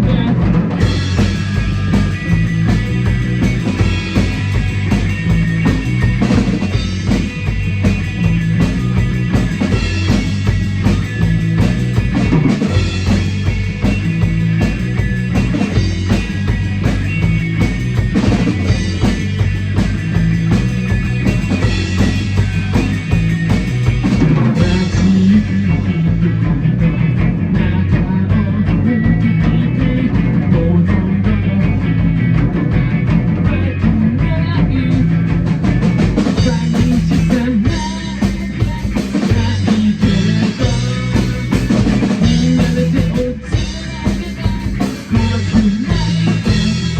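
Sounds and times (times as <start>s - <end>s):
rock song with drums and guitar: 0.0s - 46.9s.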